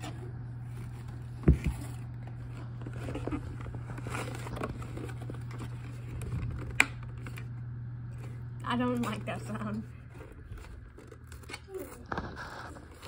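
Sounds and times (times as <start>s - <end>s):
packaging rustling and scraping: 0.0s - 13.0s
steady low hum: 0.0s - 13.0s.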